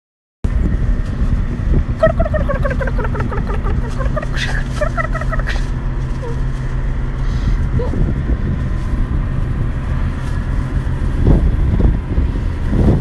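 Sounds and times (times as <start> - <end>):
low engine-like rumble: 0.5 - 13.0.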